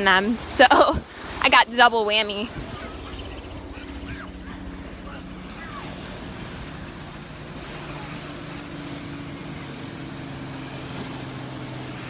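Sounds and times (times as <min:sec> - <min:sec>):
motor engine droning: 0:00.0 - 0:12.0
surf hissing: 0:00.0 - 0:12.0
wind: 0:00.0 - 0:12.0.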